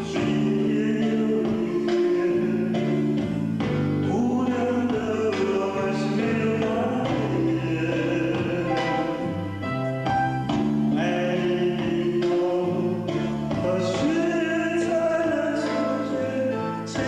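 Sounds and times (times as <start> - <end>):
instrumental accompaniment: 0.0 - 17.0
person singing pop song: 0.0 - 17.0.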